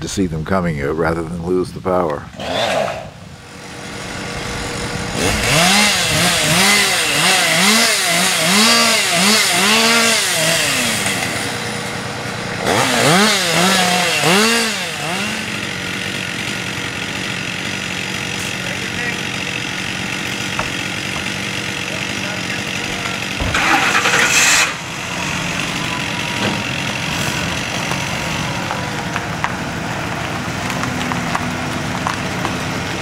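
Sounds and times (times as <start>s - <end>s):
chainsaw revving: 2.3s - 33.0s.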